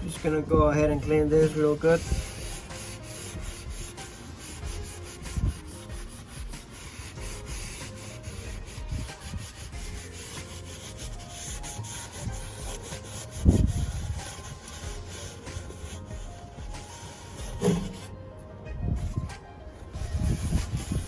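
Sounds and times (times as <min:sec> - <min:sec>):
hand scrubbing and wiping: 0:00.0 - 0:18.2, 0:19.0 - 0:21.0.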